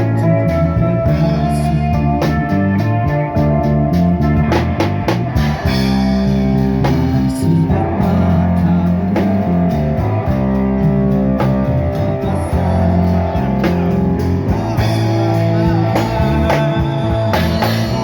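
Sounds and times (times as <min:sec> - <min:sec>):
drum kit beat: 0:00.0 - 0:18.0
guitar: 0:00.0 - 0:18.0
live band playing a song: 0:00.0 - 0:18.0.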